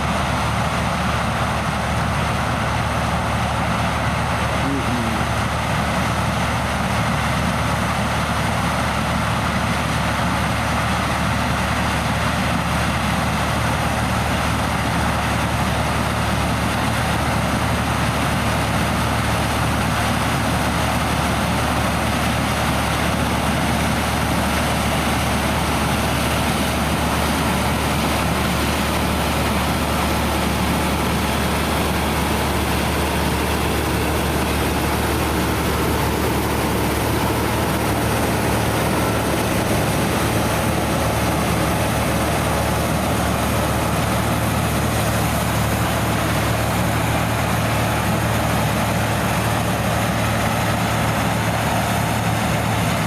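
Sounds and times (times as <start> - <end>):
diesel machinery engine drone: 0.0 - 53.0.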